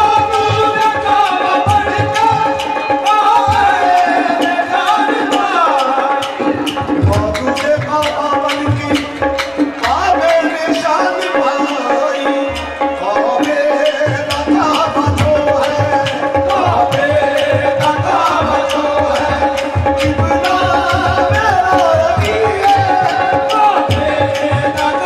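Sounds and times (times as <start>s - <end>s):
man singing: 0.0s - 25.0s
tabla: 0.0s - 25.0s.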